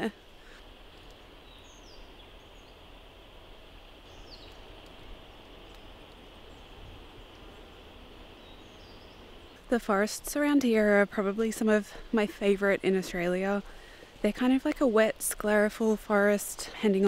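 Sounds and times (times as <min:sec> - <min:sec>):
steady forest hiss: 0:00.0 - 0:17.0.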